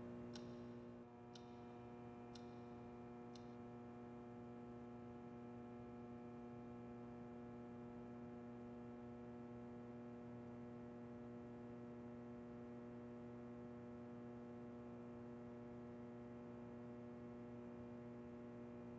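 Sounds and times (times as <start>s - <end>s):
faint electrical hum: 0.0s - 18.9s.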